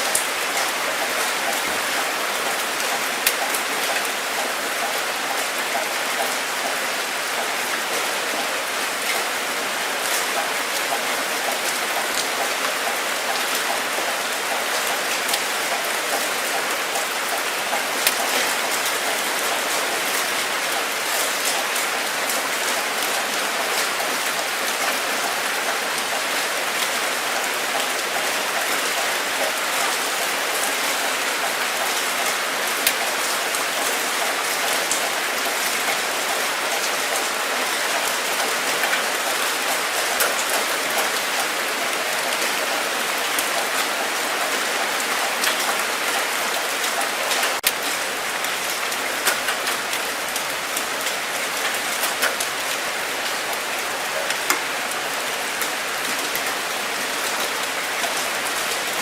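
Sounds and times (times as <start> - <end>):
steady rain hiss: 0.0 - 59.0
raindrops ticking: 0.1 - 7.5, 10.0 - 59.0.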